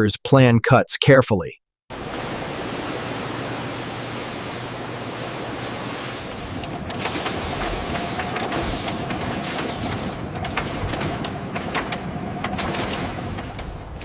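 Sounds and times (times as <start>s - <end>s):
factory machinery hiss and hum: 1.9s - 14.0s.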